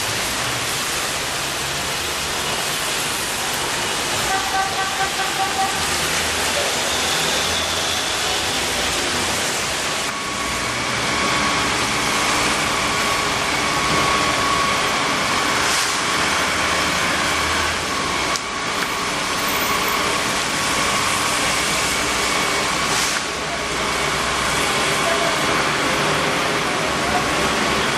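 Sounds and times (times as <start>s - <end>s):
heavy rain on streets: 0.0s - 27.9s
road traffic: 0.0s - 27.9s.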